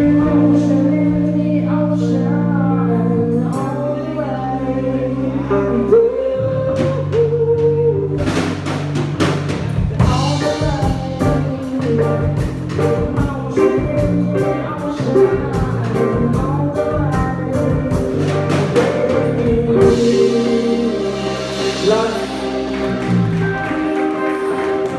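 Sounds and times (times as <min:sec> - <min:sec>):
person singing: 0:00.0 - 0:08.6, 0:09.9 - 0:24.9
bass: 0:00.0 - 0:24.9
drums: 0:00.0 - 0:24.9.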